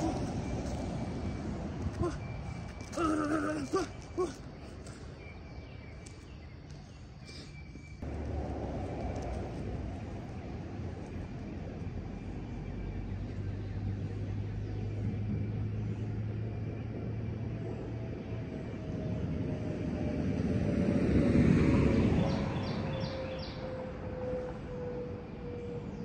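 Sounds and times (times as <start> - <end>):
outdoor rumble: 0.0 - 26.0
road vehicle passing: 0.0 - 26.0.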